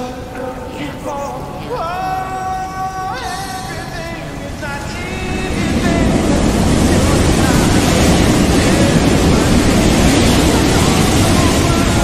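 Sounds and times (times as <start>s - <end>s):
faint voices: 0.0s - 12.0s
loud rushing noise: 2.1s - 12.0s.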